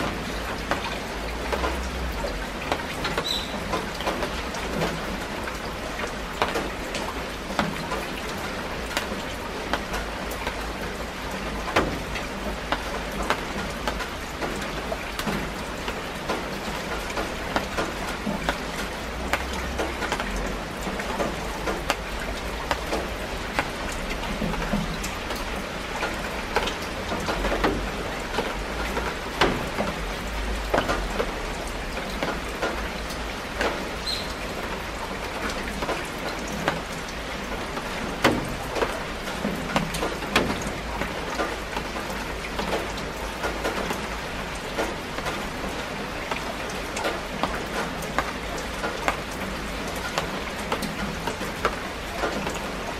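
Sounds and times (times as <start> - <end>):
rain falling on leaves: 0.0 - 52.9.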